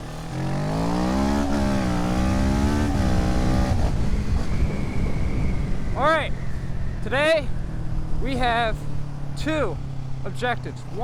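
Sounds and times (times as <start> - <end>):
motorcycle engine accelerating: 0.0 - 11.0
wind and road rumble: 0.0 - 11.0.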